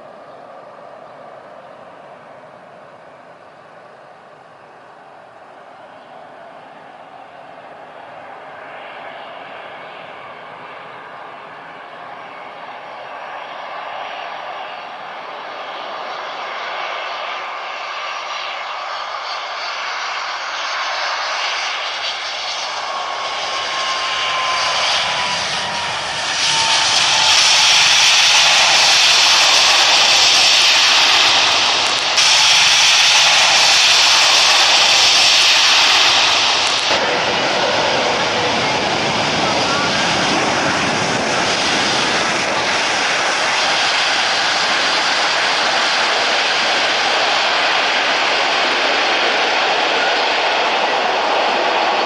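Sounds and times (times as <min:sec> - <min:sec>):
jet engines hissing and whining: 0:00.0 - 0:52.0.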